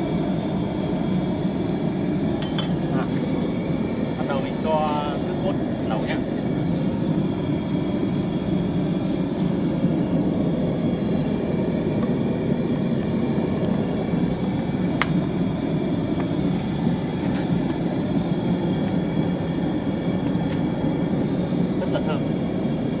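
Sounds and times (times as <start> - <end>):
gas burner roaring: 0.0 - 23.0.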